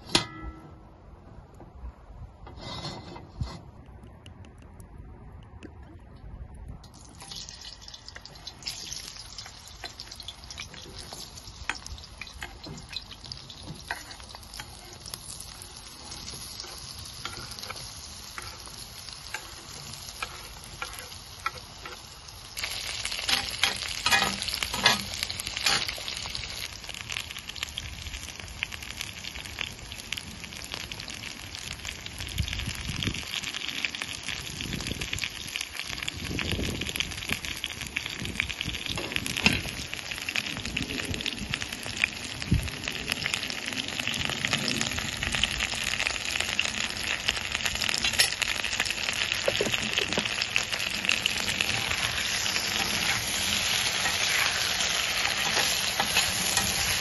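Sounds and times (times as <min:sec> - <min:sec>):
potatoes sizzling in hot oil: 0:06.9 - 0:57.0.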